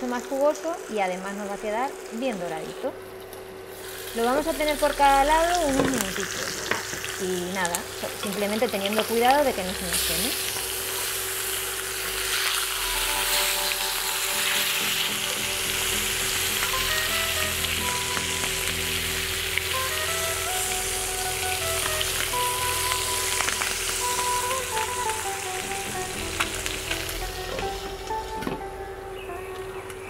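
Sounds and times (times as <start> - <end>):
chicken sizzling in oil: 3.6 - 28.3.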